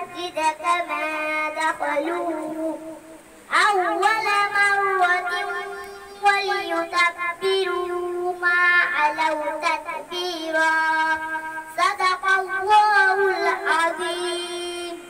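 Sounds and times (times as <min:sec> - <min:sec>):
girl reciting melodically: 0:00.0 - 0:15.0.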